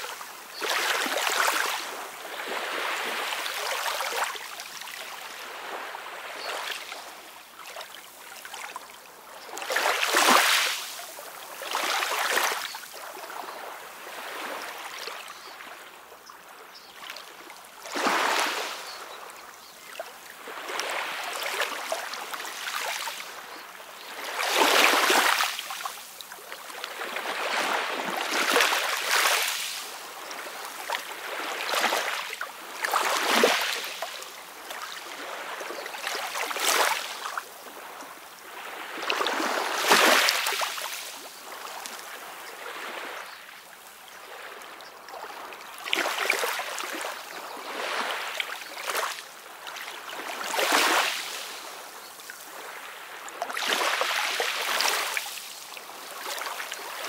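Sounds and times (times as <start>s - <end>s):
small waves lapping: 0.0s - 57.0s.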